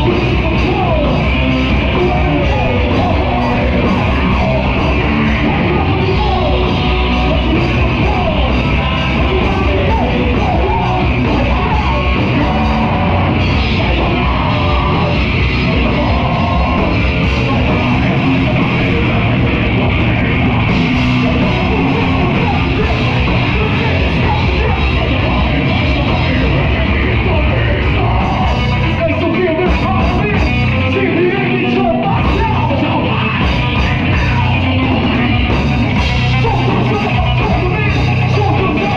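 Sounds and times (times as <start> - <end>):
drum kit: 0.0 - 38.9
electric guitars: 0.0 - 38.9
person singing: 0.0 - 38.9.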